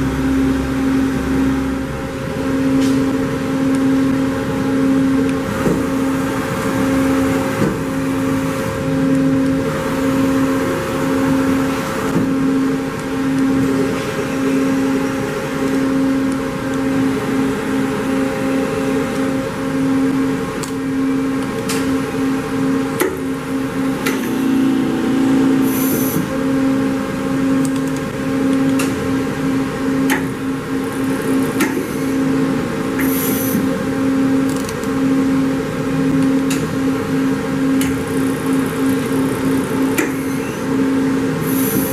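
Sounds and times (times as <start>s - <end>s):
lathe spindle humming: 0.0s - 41.9s.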